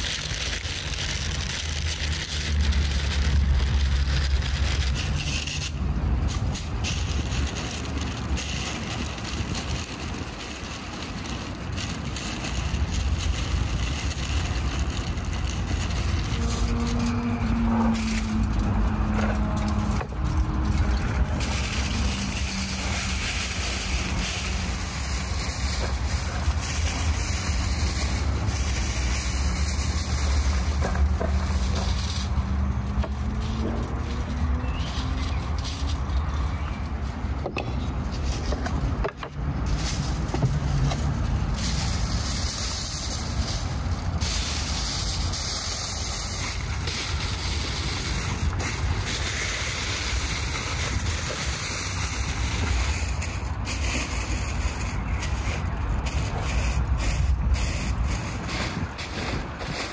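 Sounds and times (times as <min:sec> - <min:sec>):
aluminium foil crinkling: 0:00.0 - 0:59.9.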